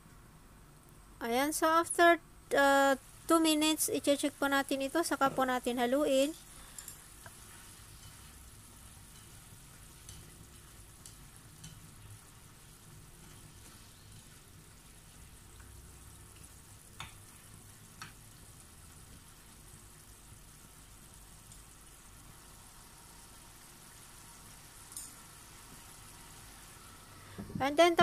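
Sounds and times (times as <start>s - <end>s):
food simmering in pan: 2.6s - 28.0s.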